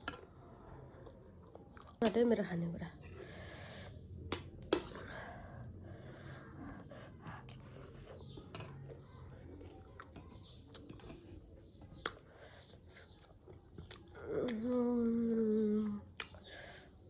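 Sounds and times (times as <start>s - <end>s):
soft chewing: 0.0s - 2.2s, 4.2s - 17.0s.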